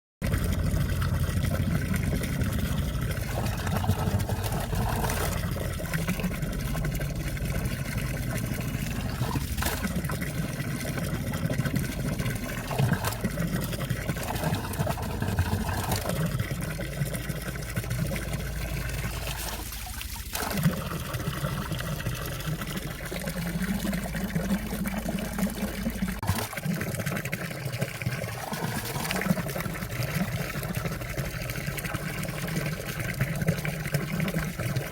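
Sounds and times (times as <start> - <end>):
stream babbling under ice: 0.2 - 34.9.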